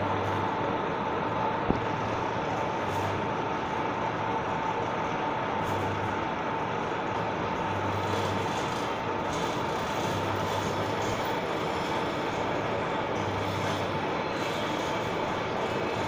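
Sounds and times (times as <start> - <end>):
high machine whine: 0.0 - 16.0
milling machine drone: 0.0 - 16.0.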